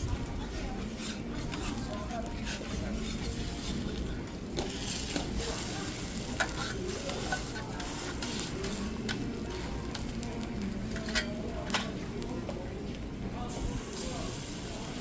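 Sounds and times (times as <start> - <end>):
faint chatter: 0.0 - 15.0
food sizzling: 0.1 - 15.0.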